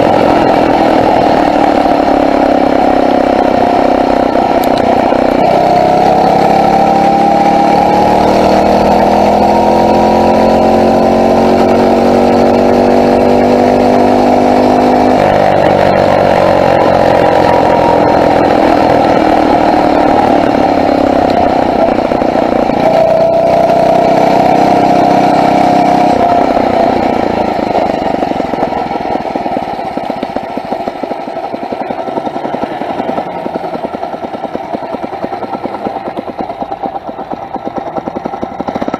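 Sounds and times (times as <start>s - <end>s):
motorized bicycle engine running: 0.0s - 38.9s.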